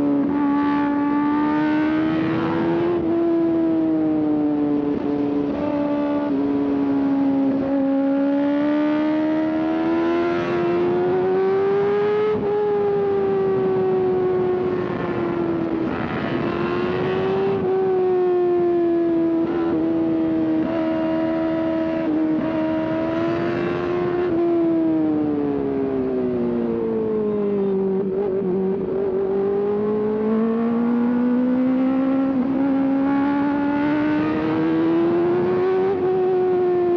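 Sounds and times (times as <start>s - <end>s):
motorcycle engine at high revs: 0.0s - 36.9s.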